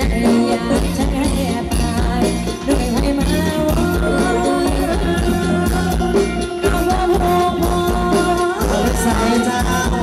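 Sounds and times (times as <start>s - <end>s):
live band music with steady beat: 0.0s - 10.0s.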